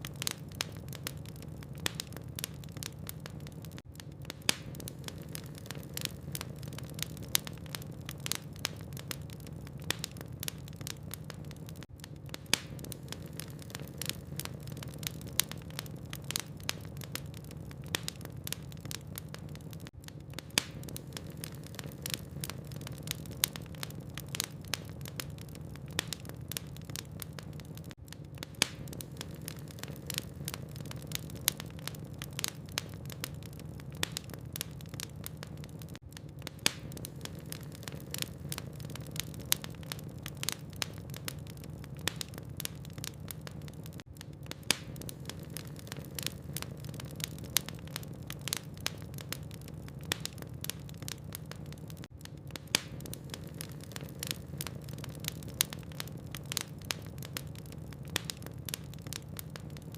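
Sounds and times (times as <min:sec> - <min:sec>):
logs crackling and snapping: 0:00.0 - 0:59.9.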